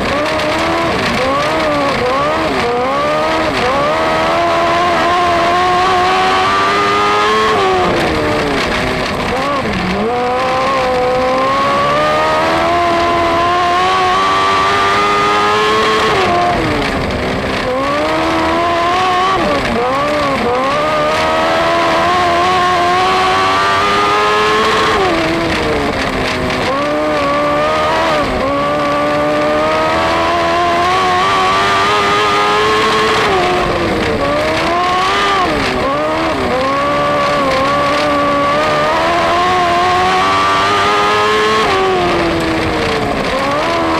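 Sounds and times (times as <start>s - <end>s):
race car engine accelerating: 0.0s - 43.9s.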